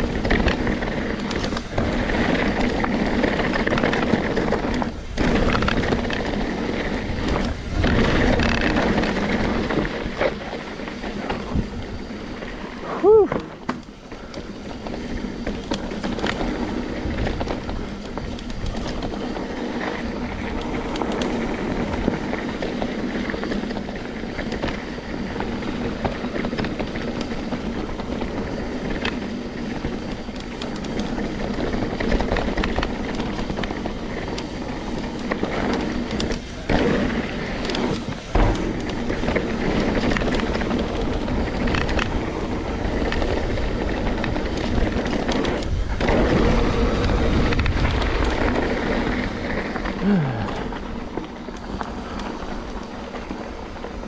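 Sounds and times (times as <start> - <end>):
bike knocks and rattles: 0.0 - 54.0
bike tyres rolling on dirt: 0.0 - 54.0.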